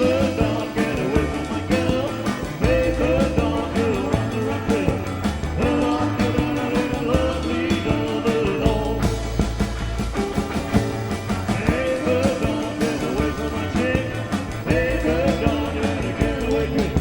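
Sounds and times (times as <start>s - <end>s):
rock and roll band music: 0.0s - 17.0s.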